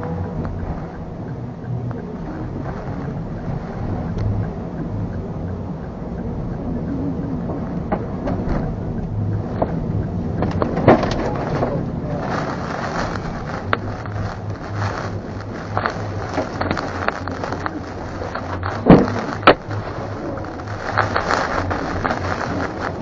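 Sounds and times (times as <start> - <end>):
vehicle running noise: 0.0 - 23.0
wind and rain on car: 0.0 - 23.0.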